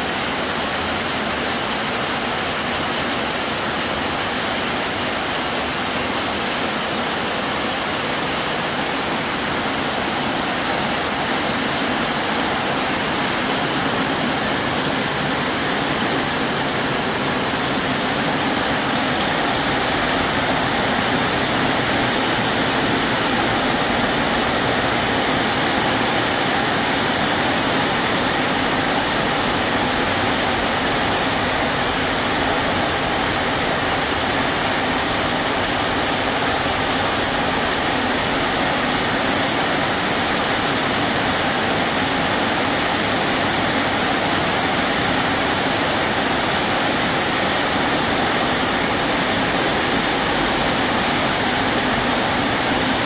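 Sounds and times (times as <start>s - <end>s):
heavy rain downpour: 0.0s - 53.0s.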